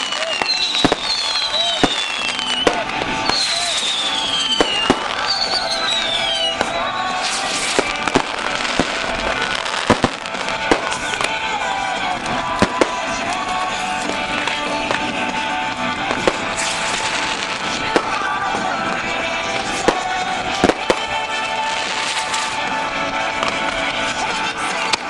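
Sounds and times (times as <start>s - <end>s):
fireworks bangs: 0.0s - 25.0s
music playing: 0.0s - 25.0s
rocket hiss and crackling sparks: 0.0s - 25.0s.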